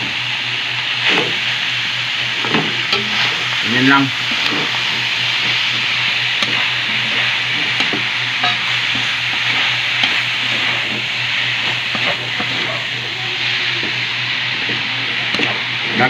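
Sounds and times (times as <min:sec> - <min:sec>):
low hum: 0:00.0 - 0:16.0
meat sizzling in a wok: 0:00.0 - 0:16.0.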